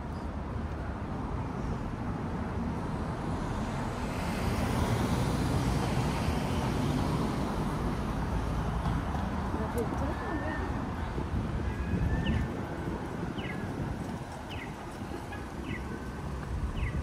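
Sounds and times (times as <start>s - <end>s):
cars passing on road: 0.0s - 17.0s.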